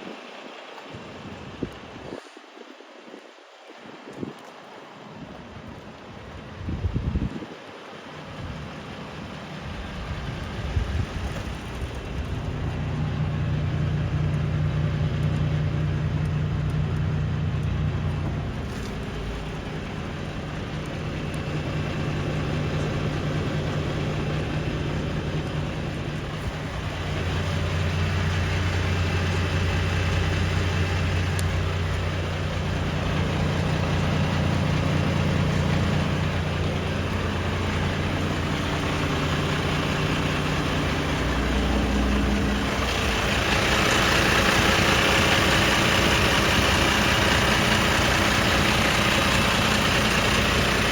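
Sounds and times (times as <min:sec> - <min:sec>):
diesel truck engine idling: 0:08.1 - 0:50.9.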